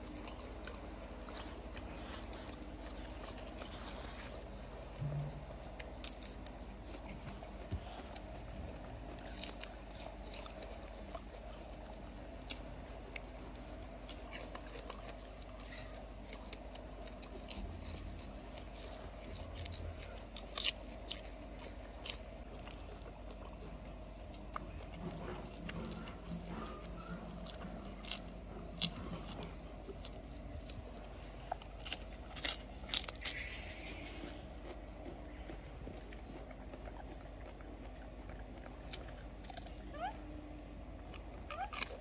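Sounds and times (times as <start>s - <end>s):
background hum: 0.0s - 42.0s
monkeys chewing crunchy stalks: 0.0s - 42.0s.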